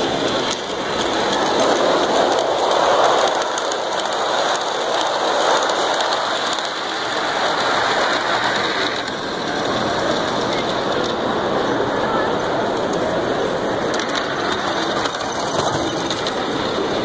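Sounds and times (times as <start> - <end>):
model train wheels rumbling on track: 0.0 - 17.0.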